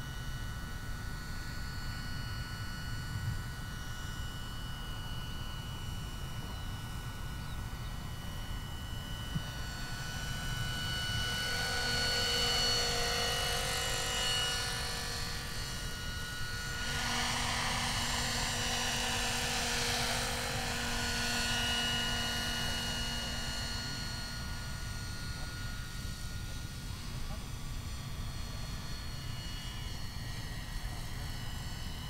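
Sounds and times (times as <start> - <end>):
model helicopter motor whine: 0.0 - 32.0.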